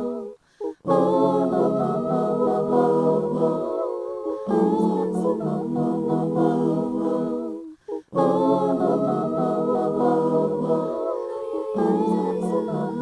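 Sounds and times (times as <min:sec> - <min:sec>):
voices singing in harmony: 0:00.0 - 0:13.0.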